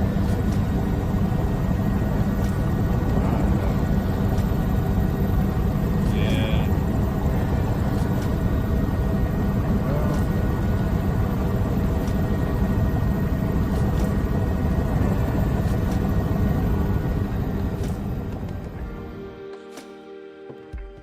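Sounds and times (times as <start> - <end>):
low engine rumble: 0.0 - 19.1
faint steady tones: 0.0 - 21.0.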